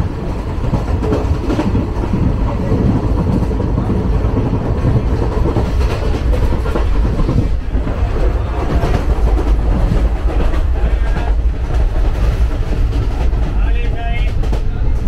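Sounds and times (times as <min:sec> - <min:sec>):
train carriage rumbling: 0:00.0 - 0:15.0
wheels clacking over rail joints: 0:00.0 - 0:15.0.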